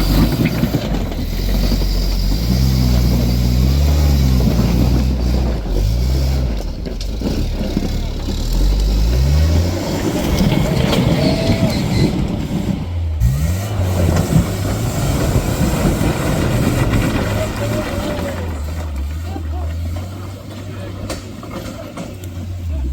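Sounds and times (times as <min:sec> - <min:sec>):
rough crackling and clatter: 0:00.0 - 0:22.9
truck engine revving: 0:00.0 - 0:22.9.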